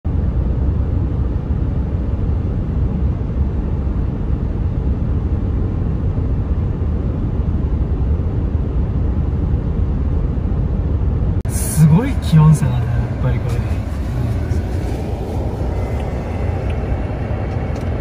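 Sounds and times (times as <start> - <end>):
car interior road rumble: 0.1 - 18.0.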